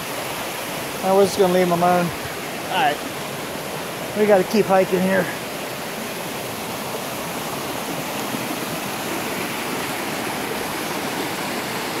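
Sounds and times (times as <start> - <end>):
stream pouring over cascade: 0.0 - 12.0.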